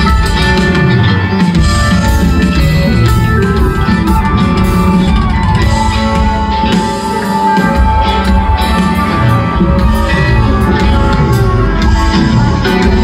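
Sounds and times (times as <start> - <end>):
bass guitar: 0.0 - 13.0
drums: 0.0 - 13.0
electric guitar: 0.0 - 13.0.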